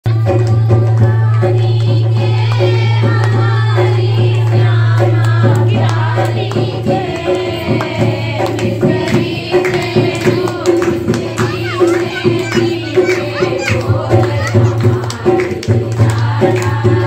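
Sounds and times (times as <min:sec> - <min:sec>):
percussion beat: 0:00.0 - 0:17.0
hand claps: 0:00.1 - 0:17.0
women singing devotional song: 0:00.1 - 0:17.0.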